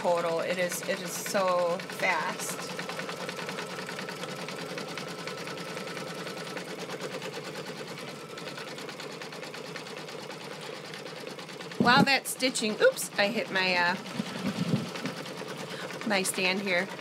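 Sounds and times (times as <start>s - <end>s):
embroidery machine needle strokes: 0.0s - 17.0s
motor hum: 0.0s - 17.0s.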